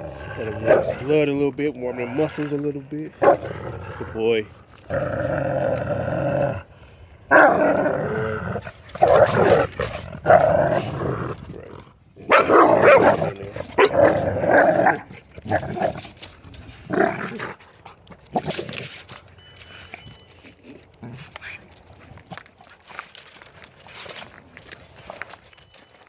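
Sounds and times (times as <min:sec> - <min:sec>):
dogs growling: 0:00.0 - 0:25.4.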